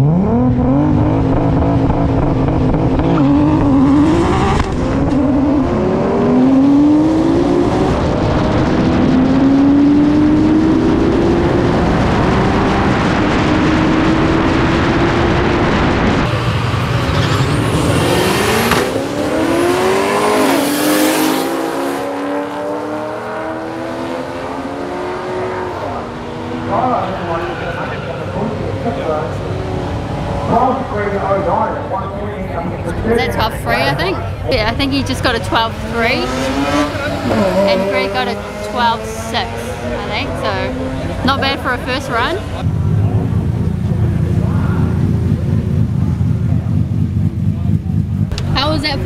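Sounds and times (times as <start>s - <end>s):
race car engines at full throttle: 0.0s - 49.0s.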